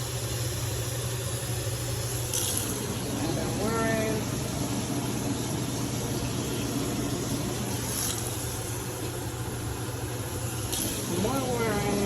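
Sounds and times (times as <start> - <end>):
steady low hum: 0.0 - 12.0
water pouring into a pot: 0.0 - 12.0
gravy simmering: 1.4 - 12.0.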